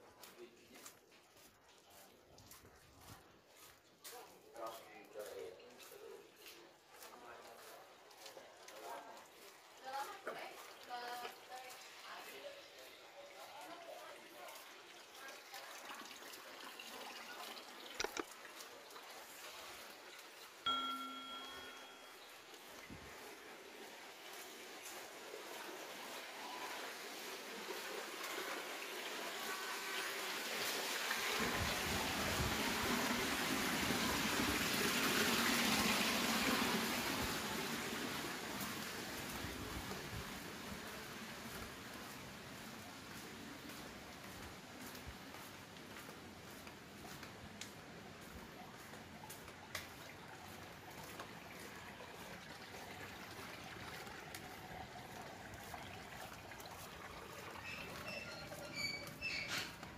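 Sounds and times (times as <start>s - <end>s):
water running: 4.3s - 59.9s.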